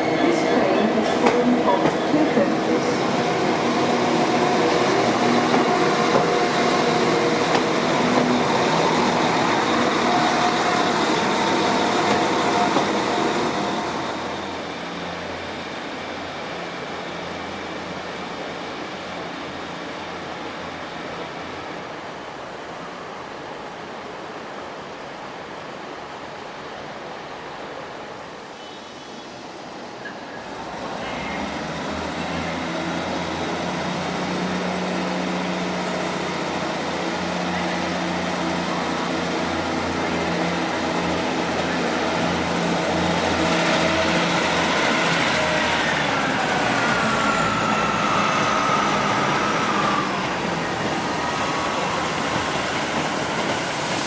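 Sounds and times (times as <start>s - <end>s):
diesel train engine hum: 0.0s - 28.4s, 29.4s - 54.0s.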